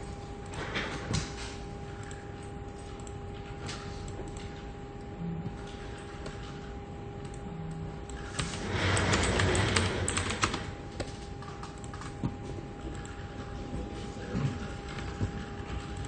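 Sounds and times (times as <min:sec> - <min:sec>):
steady low hum: 0:00.0 - 0:16.0
computer keyboard typing: 0:01.9 - 0:04.8, 0:05.4 - 0:16.0.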